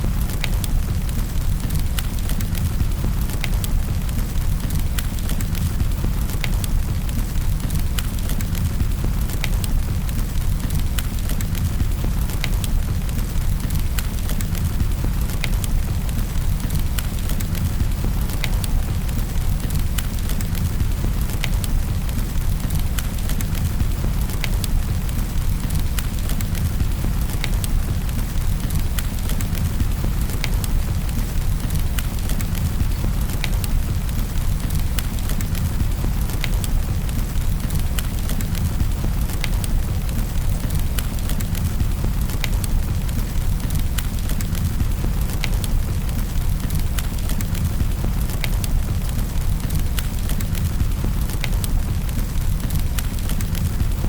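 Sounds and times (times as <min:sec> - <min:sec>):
rain rumble and hiss: 0:00.0 - 0:54.0
wood fire crackling and popping: 0:00.0 - 0:54.0.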